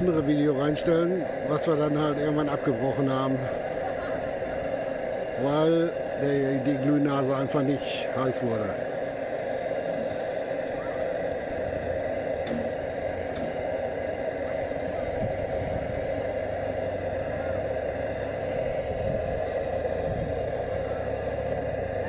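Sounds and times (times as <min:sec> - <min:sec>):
blowtorch burning: 0:00.0 - 0:22.0.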